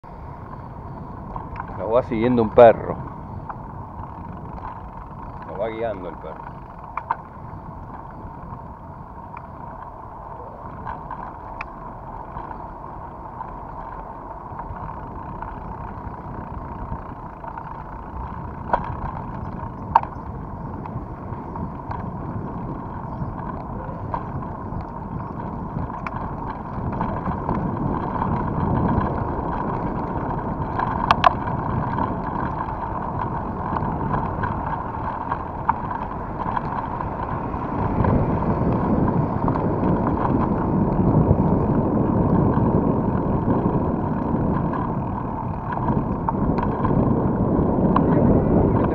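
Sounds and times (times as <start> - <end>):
wind noise on microphone: 0.0 - 48.9.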